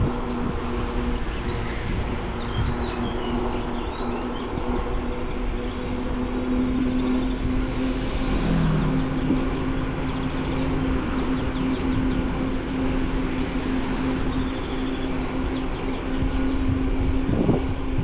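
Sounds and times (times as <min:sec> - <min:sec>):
birds chirping: 0:00.0 - 0:17.7
wind rumble on microphone: 0:00.0 - 0:18.0.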